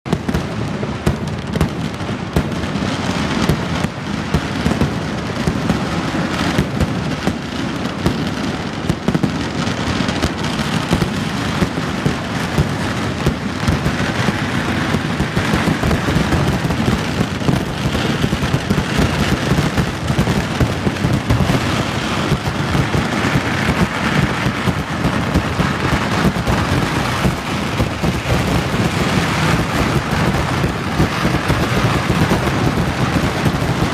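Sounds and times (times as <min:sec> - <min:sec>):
fireworks crackling barrage: 0:00.0 - 0:33.9.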